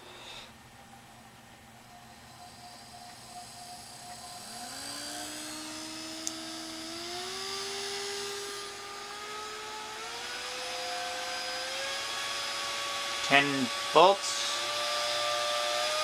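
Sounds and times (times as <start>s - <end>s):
hair dryer motor whine: 0.0s - 0.4s, 1.9s - 16.0s.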